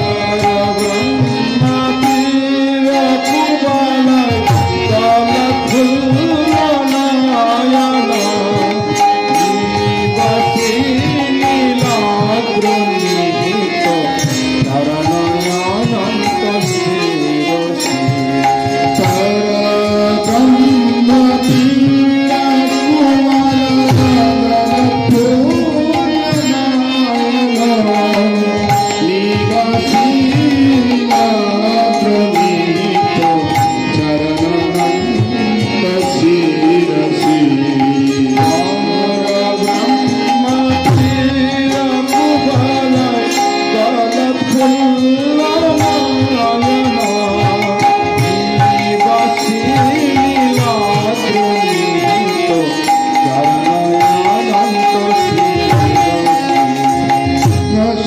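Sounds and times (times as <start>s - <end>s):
man singing a hymn: 0.0s - 18.1s, 18.8s - 56.8s, 57.6s - 58.0s
harmonium chords: 0.0s - 58.0s.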